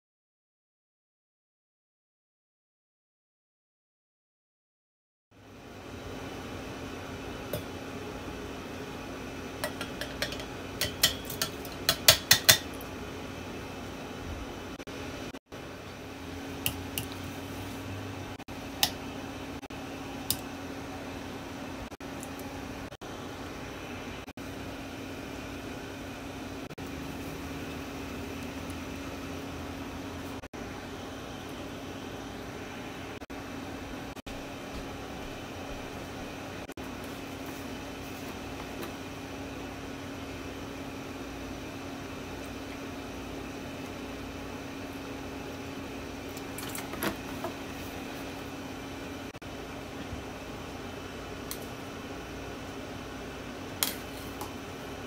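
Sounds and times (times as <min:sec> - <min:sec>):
steady mechanical hum: 0:05.3 - 0:55.0.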